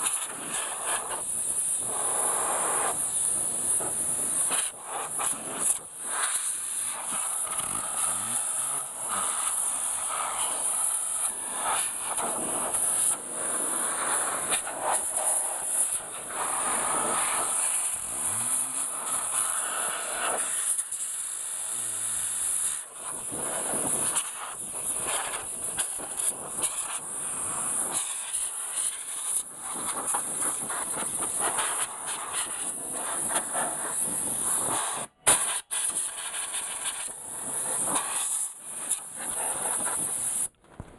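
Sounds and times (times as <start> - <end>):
compressed air hissing: 0.0 - 40.6.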